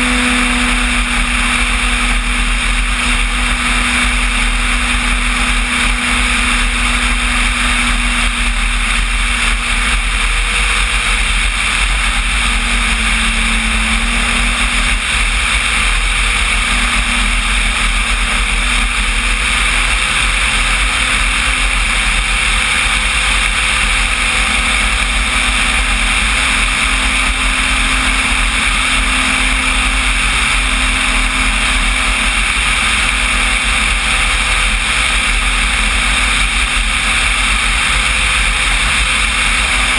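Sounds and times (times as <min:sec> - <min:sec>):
electric motor and propeller drone: 0:00.0 - 0:39.9
wind rumble on microphone: 0:00.0 - 0:39.9.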